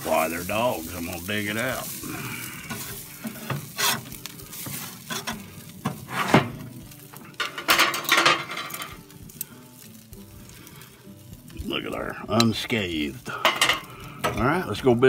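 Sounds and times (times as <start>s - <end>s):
metal spatula scraping on grill grate: 0.0s - 11.5s, 12.1s - 15.0s.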